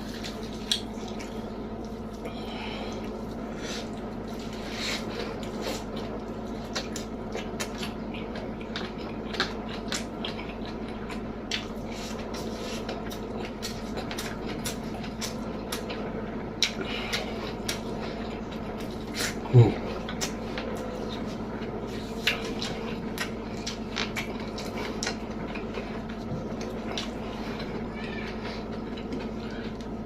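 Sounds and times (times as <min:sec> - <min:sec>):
chewing and mouth smacking: 0:00.0 - 0:02.3, 0:02.9 - 0:29.9
steady low hum: 0:00.0 - 0:30.0.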